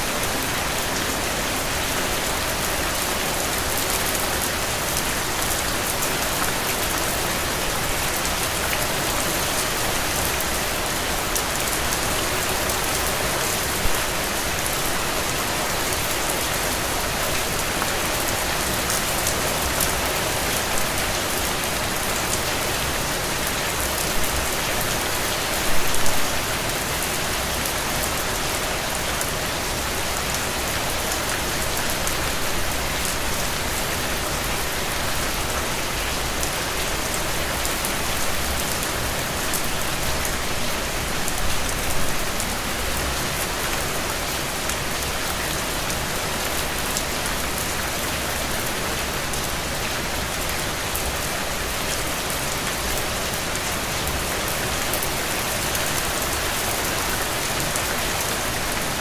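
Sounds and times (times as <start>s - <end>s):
heavy rain on ground and puddles: 0.0s - 59.0s.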